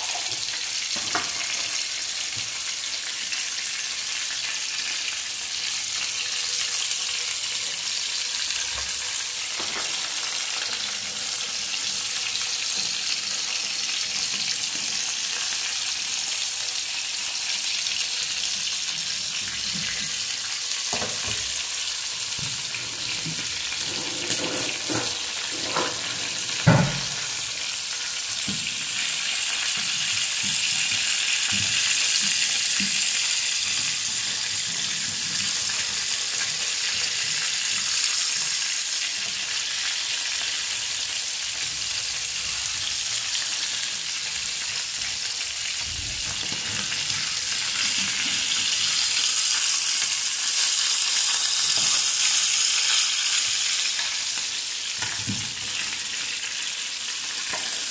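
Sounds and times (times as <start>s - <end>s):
fish sizzling in oil: 0.0s - 57.9s.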